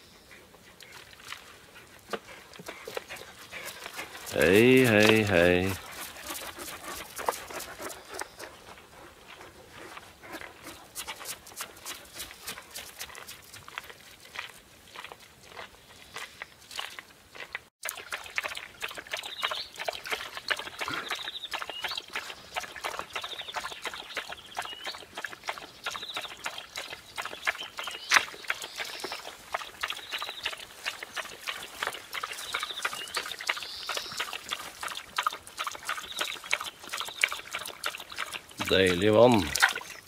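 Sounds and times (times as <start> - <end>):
dog lapping water: 0.6 - 40.0.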